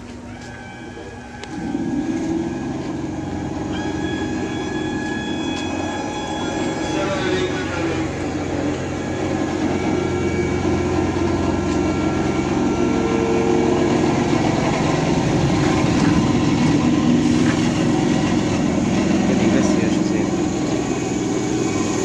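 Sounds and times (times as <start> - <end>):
electric train machine hum: 0.0 - 22.0
higher tone: 0.2 - 22.0.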